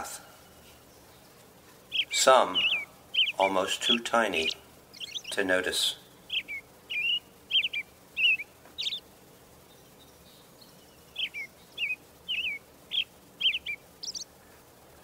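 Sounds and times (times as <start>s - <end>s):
small bird chirping: 0.5s - 14.6s.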